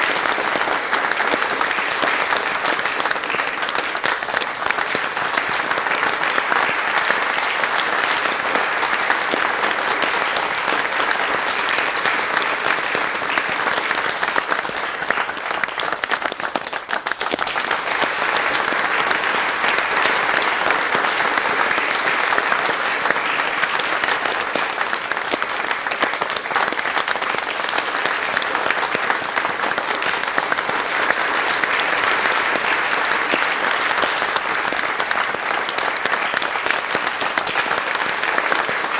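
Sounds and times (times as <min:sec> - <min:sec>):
audience applause: 0:00.0 - 0:38.9.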